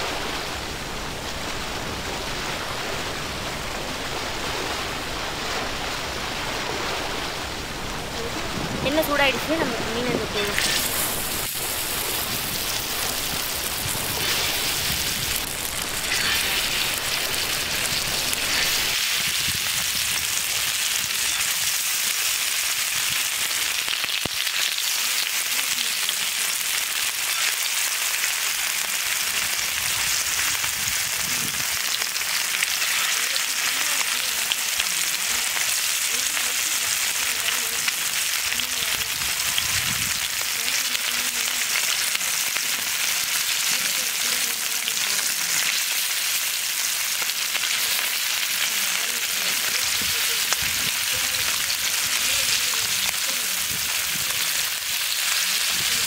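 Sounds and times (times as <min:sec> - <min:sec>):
fish sizzling in hot oil: 0:08.8 - 0:56.0.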